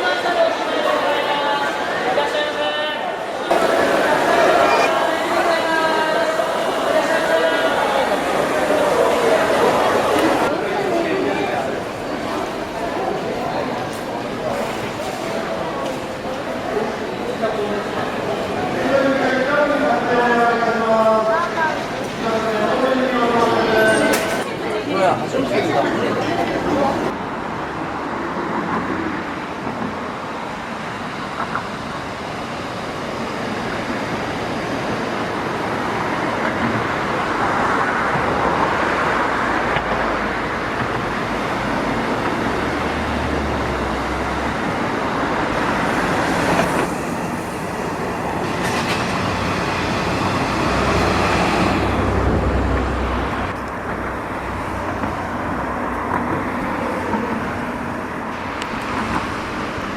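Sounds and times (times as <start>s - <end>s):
train rail noise: 0.0s - 59.9s.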